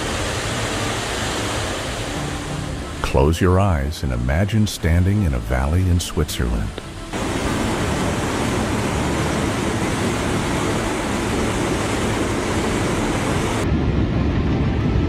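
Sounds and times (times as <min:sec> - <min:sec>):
rushing river roar: 0:00.0 - 0:13.6.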